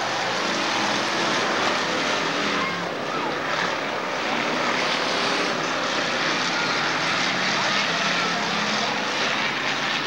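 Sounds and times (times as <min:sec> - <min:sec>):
racing car engines droning: 0:00.0 - 0:10.0.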